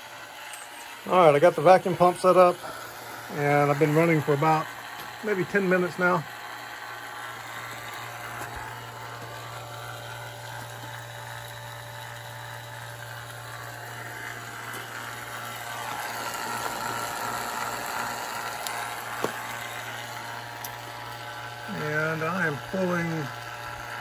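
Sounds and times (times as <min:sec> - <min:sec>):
vacuum pump humming: 0:00.0 - 0:24.0.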